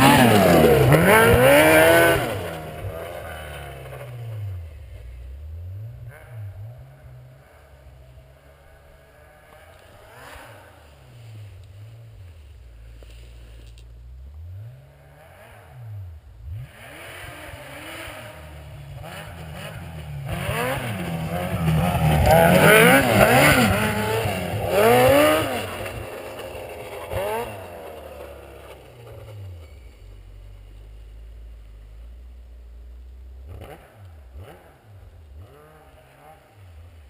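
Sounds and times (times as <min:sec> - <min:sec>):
snowmobile engine revving: 0:00.0 - 0:32.8, 0:33.4 - 0:37.0.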